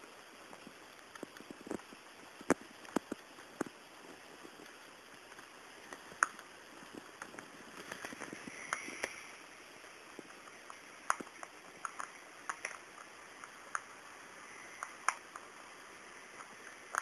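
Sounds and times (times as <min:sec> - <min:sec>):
rabbit nibbling crunches: 0:00.0 - 0:17.0.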